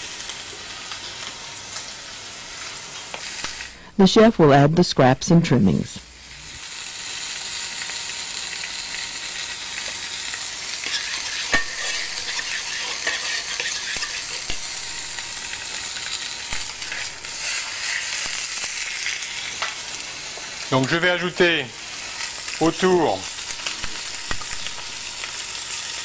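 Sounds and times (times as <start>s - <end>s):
meat sizzling in a pan: 0.0s - 3.9s, 6.0s - 26.0s.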